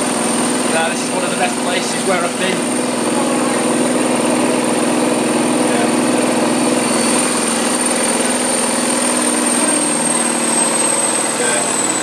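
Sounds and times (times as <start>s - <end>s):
thin high whine: 0.0s - 12.0s
washing machine motor hum: 0.0s - 12.0s.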